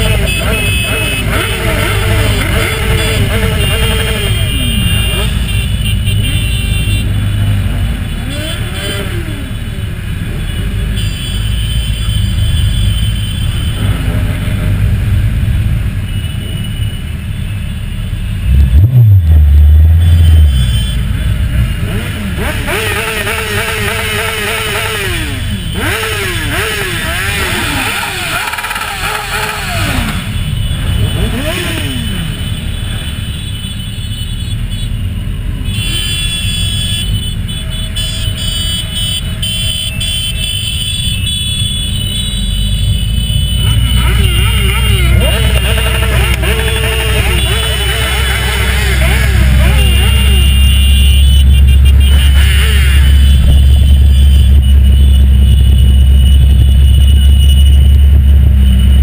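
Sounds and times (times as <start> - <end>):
motorcycle engines revving: 0.0 - 59.0
motorcycles low rumble: 0.0 - 59.0.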